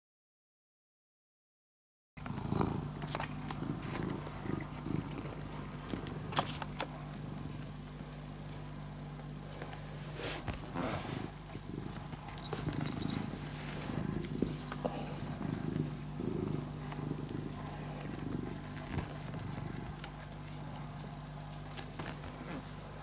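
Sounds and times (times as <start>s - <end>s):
cat purring: 2.2s - 9.0s, 9.7s - 23.0s.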